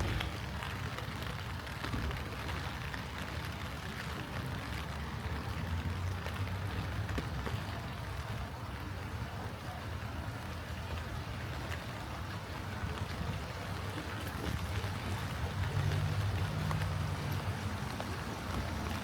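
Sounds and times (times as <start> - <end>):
light rain patter: 0.0 - 19.0.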